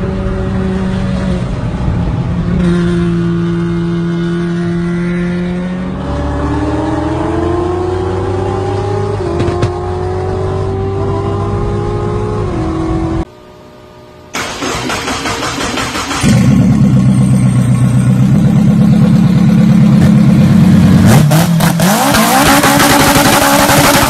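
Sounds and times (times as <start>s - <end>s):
car engine accelerating: 0.0s - 13.3s, 14.4s - 24.0s.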